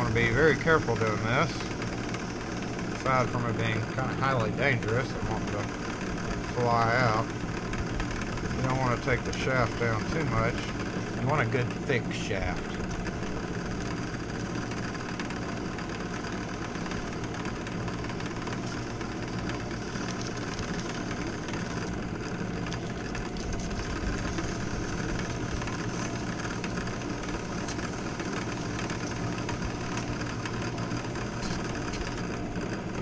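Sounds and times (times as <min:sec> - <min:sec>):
drill press motor hum: 0:00.0 - 0:33.0.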